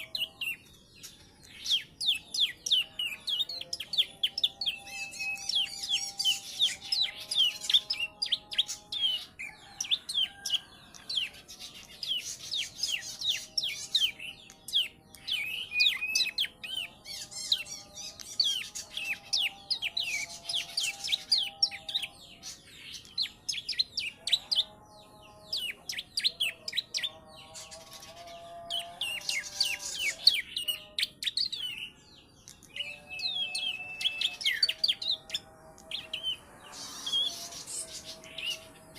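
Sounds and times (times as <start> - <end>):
bird singing rapid chirps: 0.0 - 38.9.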